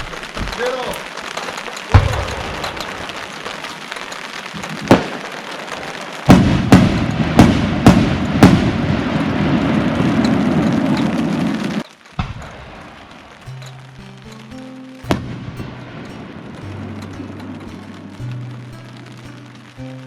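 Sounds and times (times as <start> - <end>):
firework bangs: 0.0 - 20.0
fireworks crackling: 0.0 - 20.0.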